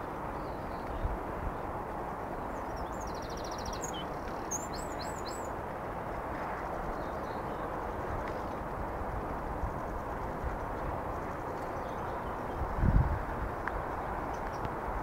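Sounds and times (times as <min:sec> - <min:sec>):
open-air background rush: 0:00.0 - 0:15.0.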